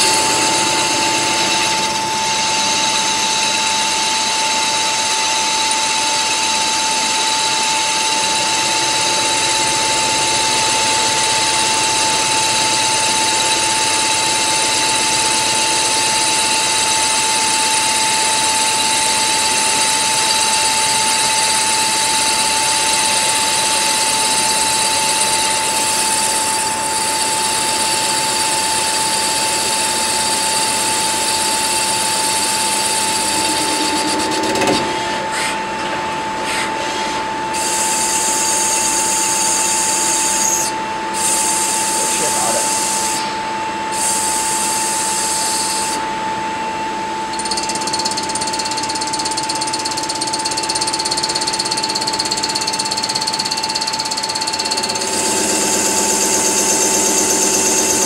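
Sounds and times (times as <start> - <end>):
lathe machine whine: 0.0 - 58.0.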